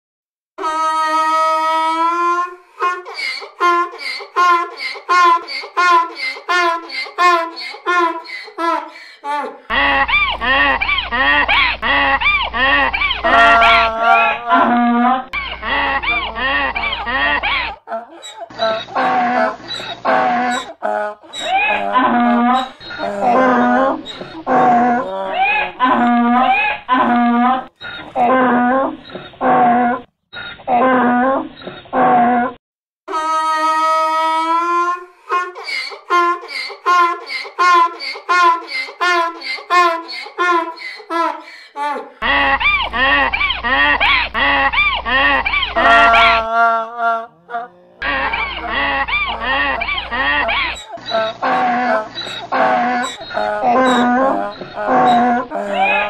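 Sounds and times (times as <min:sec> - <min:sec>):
donkey braying: 0:01.0 - 0:30.0, 0:33.6 - 0:56.0.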